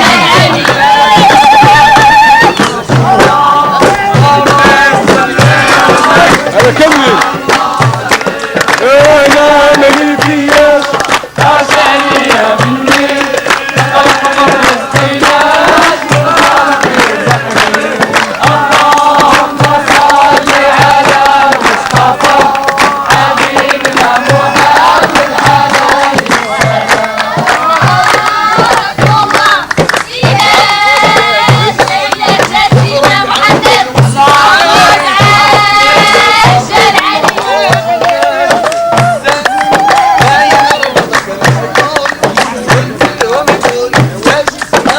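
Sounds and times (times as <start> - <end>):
group singing a chant: 0.0 - 44.9
hand drums beating: 0.0 - 44.9.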